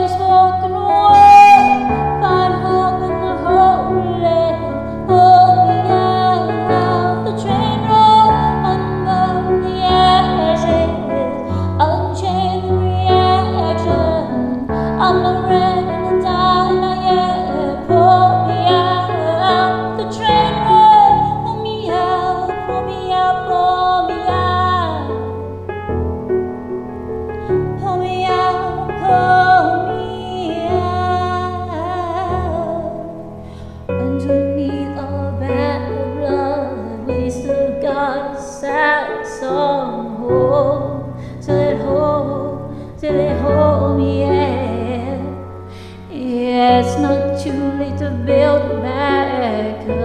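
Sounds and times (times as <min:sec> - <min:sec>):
woman singing pop ballad: 0:00.0 - 0:25.4, 0:27.4 - 0:50.0
karaoke piano backing track: 0:00.0 - 0:50.0.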